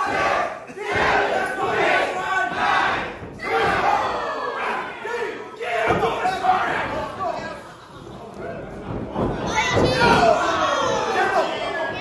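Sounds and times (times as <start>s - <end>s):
crowd shouting and yelling: 0.0s - 7.7s, 9.2s - 12.0s.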